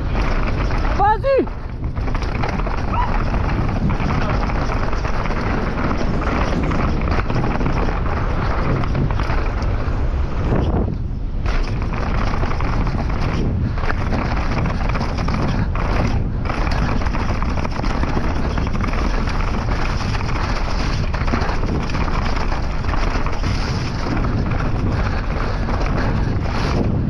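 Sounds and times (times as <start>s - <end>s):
bike rattling: 0.0s - 27.0s
tyre and trail noise: 0.0s - 27.0s
wind buffeting microphone: 0.0s - 27.0s.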